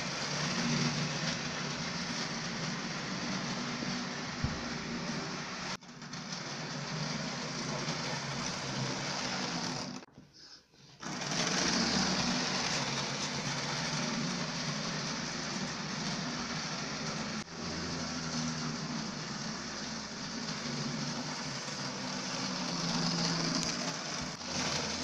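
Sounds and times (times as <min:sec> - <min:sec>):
model train motor whirring: 0:00.0 - 0:10.1, 0:11.0 - 0:25.0
wheels rolling on rails: 0:00.0 - 0:10.1, 0:11.0 - 0:25.0.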